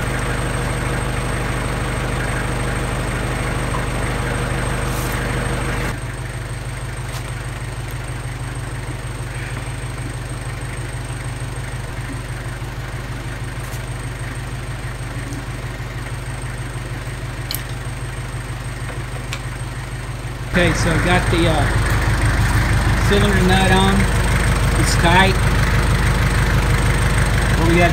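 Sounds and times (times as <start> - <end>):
tractor diesel engine idling: 0.0 - 27.9.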